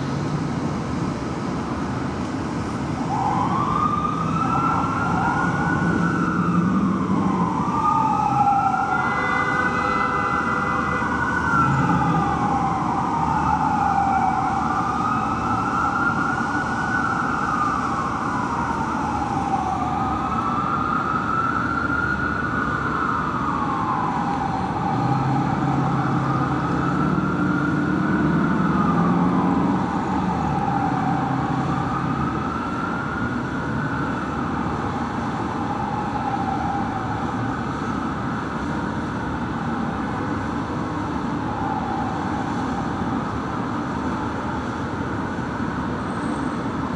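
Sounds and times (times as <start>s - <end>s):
fire truck siren wailing: 0.0s - 46.9s
second siren: 2.6s - 44.7s.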